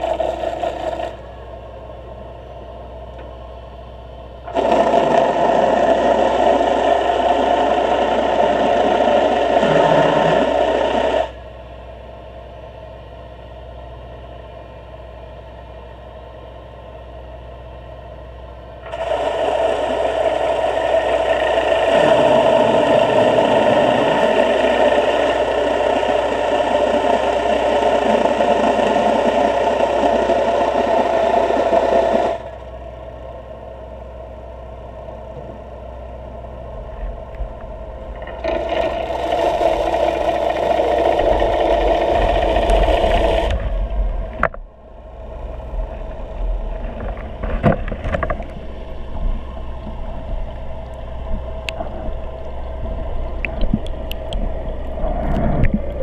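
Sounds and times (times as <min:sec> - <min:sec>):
underwater motorboat engine hum: 0:00.0 - 0:56.0.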